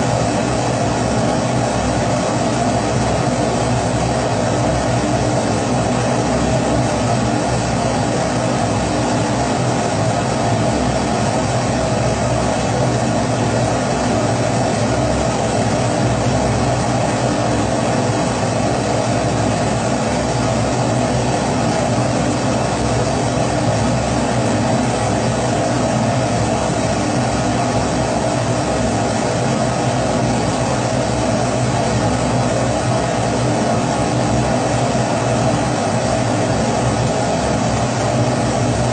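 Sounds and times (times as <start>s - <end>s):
pressure stove burner roaring: 0.0s - 38.9s.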